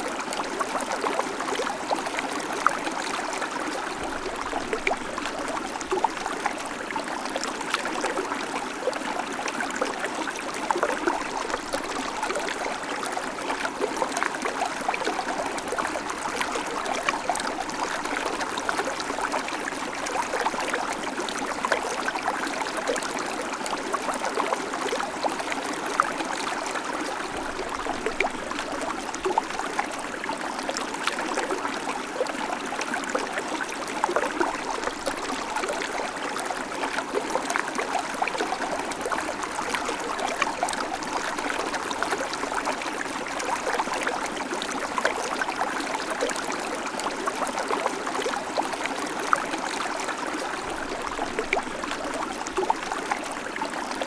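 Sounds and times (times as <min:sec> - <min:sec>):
creek babbling over stones: 0:00.0 - 0:54.0.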